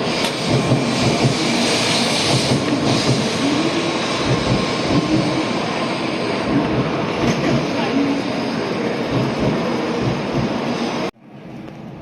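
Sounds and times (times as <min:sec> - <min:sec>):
train rumbling with faint whine: 0:00.0 - 0:12.0.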